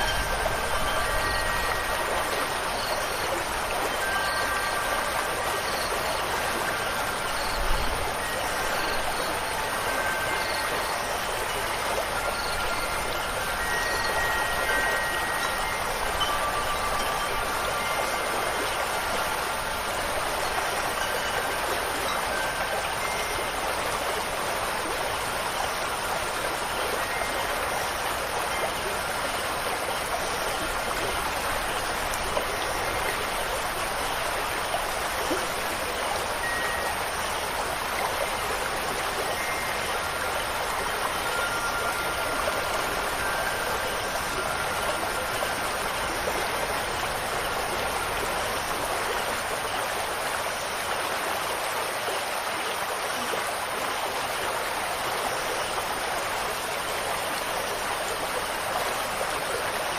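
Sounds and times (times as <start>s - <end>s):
faint chime tones: 0.0s - 50.9s
rushing water: 0.0s - 59.9s.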